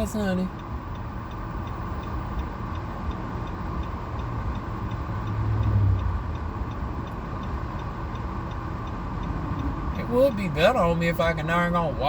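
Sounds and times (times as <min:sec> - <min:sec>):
car engine and road noise: 0:00.0 - 0:12.0
light regular ticking: 0:00.0 - 0:12.0.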